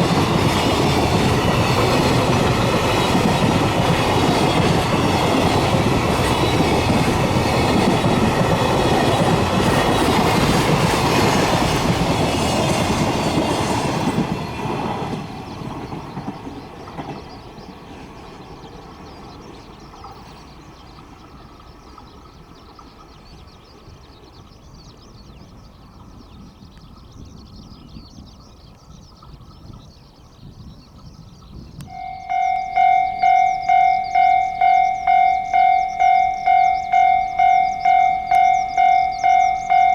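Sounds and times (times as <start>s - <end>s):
train passing on rails: 0.0s - 28.3s, 31.8s - 39.9s.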